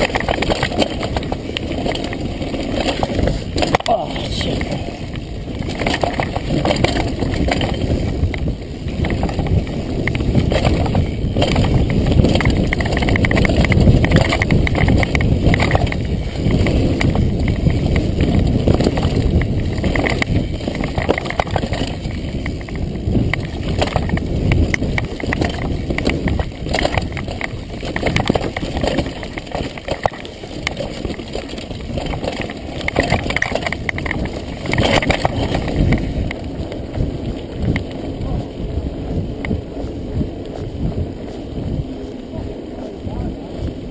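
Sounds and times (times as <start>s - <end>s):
bike knocking and rattling: 0.0s - 43.9s
tyre and trail noise: 0.0s - 43.9s.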